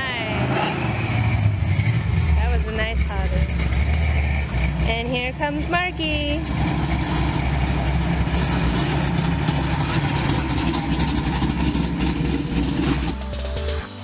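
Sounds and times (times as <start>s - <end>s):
car engine rumbling driving by: 0.0s - 13.9s.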